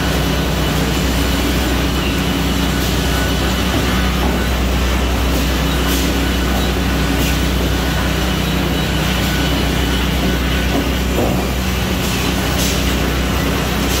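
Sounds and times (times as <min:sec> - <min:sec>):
saw machine drone: 0:00.0 - 0:14.0.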